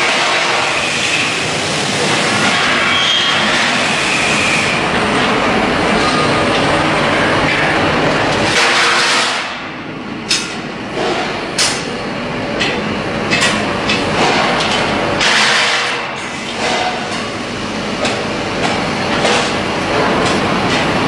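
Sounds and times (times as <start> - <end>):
industrial machinery din: 0.0 - 21.0.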